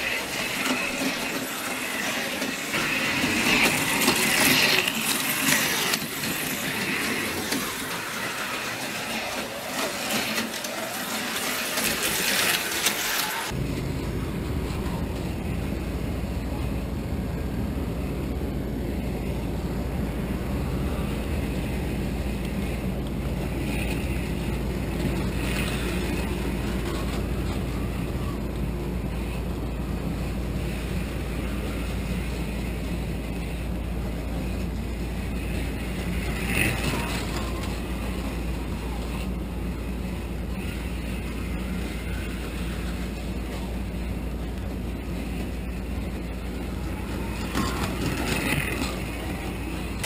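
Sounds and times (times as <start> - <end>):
model train motor humming: 0.0 - 13.6, 19.1 - 50.0.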